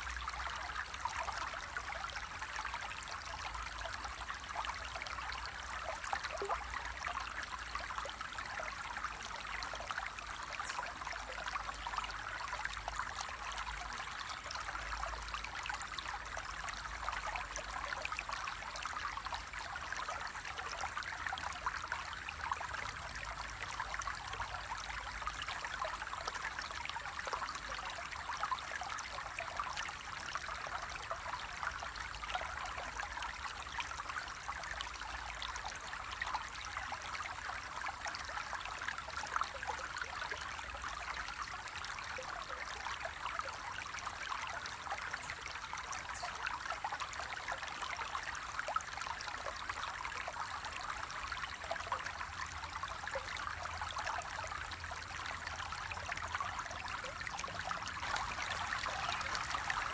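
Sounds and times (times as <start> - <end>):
stream babbling: 4.0 - 59.9.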